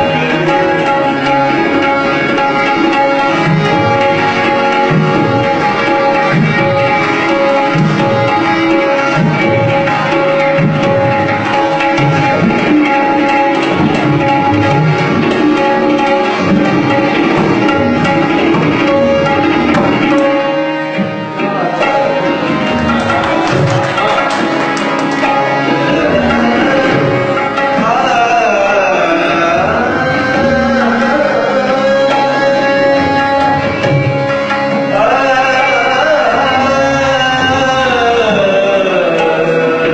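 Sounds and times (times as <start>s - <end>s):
tabla playing: 0.0s - 39.9s.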